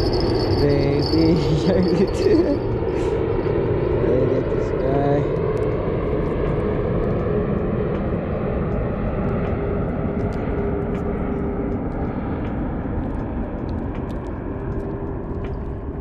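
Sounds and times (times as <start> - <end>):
jet airliner engine rumble: 0.0 - 16.0.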